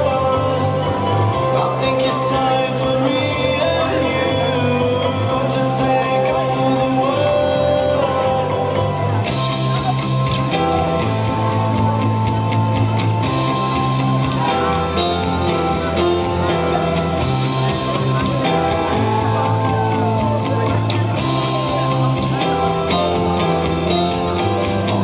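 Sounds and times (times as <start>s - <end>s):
guitar-led song with singing: 0.0s - 25.0s.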